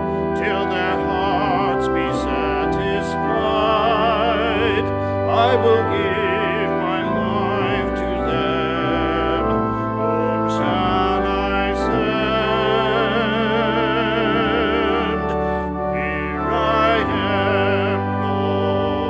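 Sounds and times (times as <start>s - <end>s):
classical singing with vibrato: 0.0s - 19.0s
sustained instrumental accompaniment: 0.0s - 19.0s.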